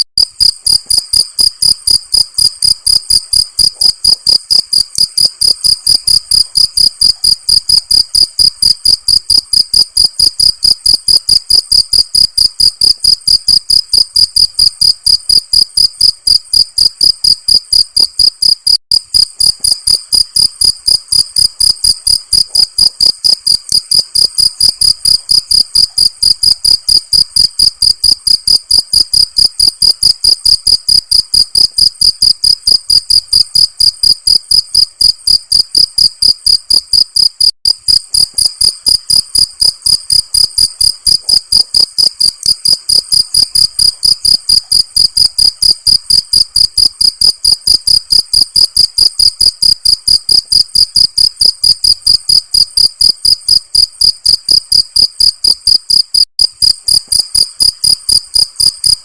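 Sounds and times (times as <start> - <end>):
cricket chirping: 0.2 - 59.0.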